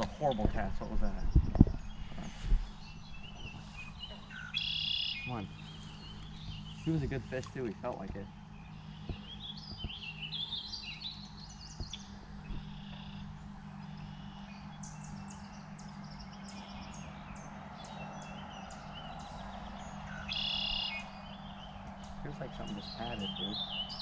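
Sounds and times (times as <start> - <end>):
birds chirping and singing: 0.0 - 24.0
steady low hum: 0.0 - 24.0.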